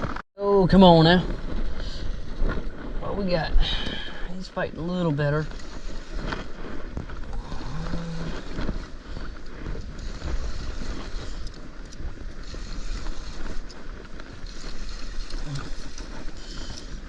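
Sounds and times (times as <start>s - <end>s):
wind buffeting microphone: 0.6s - 17.0s.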